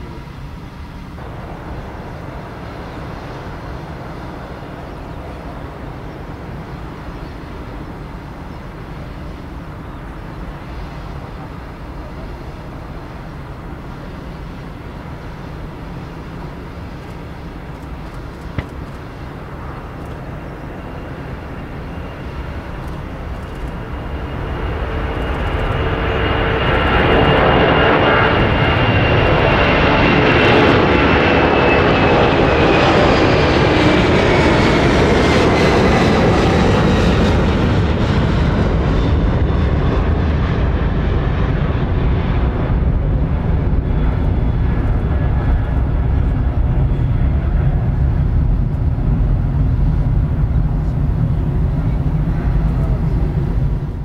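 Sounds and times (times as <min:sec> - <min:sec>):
jet engines rumbling with high whine: 0:00.0 - 0:54.0.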